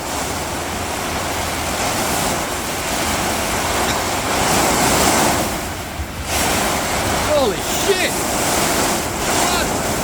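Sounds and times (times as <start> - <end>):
strong wind through trees: 0.0 - 10.0
wind buffeting microphone: 0.0 - 10.0.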